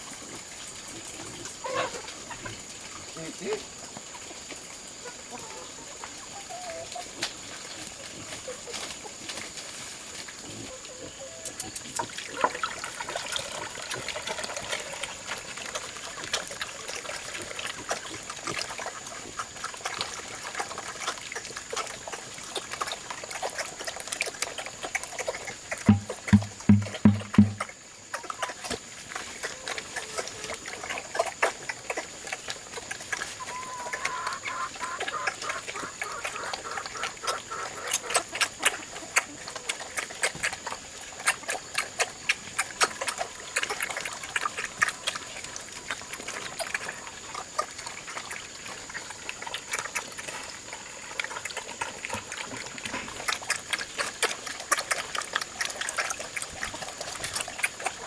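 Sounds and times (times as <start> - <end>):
pigs eating from a trough: 0.0 - 58.0.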